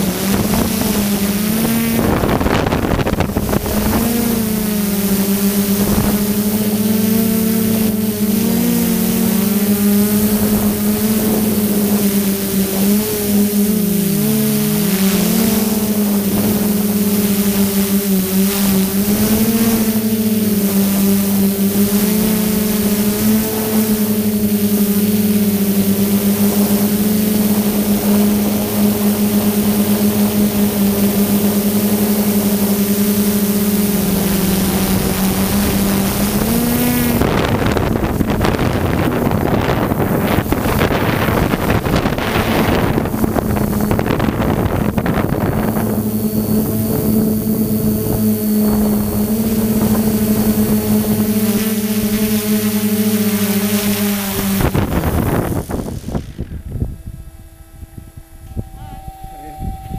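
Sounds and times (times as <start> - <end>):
drone motors humming: 0.0 - 59.9.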